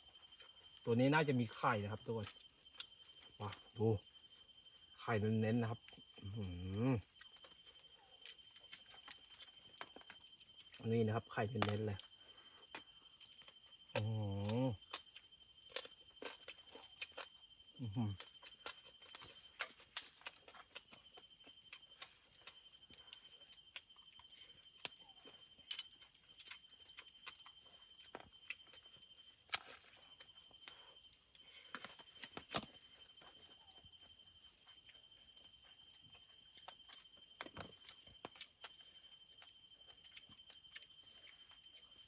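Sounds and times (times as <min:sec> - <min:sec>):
faint insect trilling: 0:00.0 - 0:42.0.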